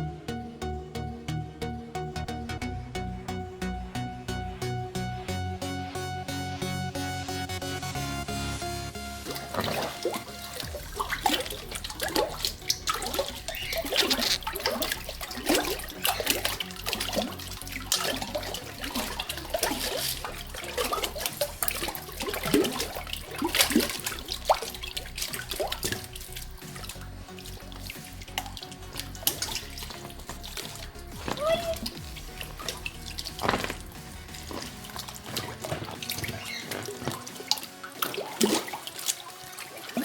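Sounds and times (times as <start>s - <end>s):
background music: 0.0s - 40.0s
bathwater sloshing and splashing: 7.8s - 40.0s.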